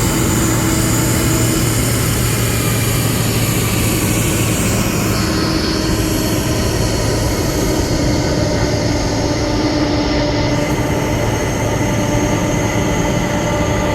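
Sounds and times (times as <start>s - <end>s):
jet engines running: 0.0s - 13.9s.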